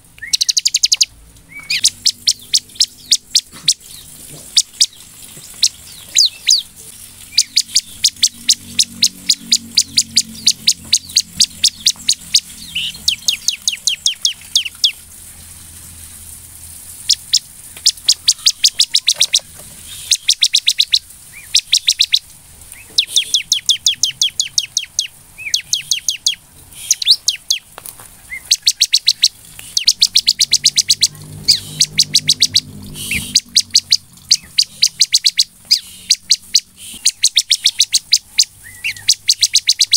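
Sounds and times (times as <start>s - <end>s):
bird singing high chirps: 0.2s - 15.0s, 17.0s - 27.7s, 28.3s - 39.9s.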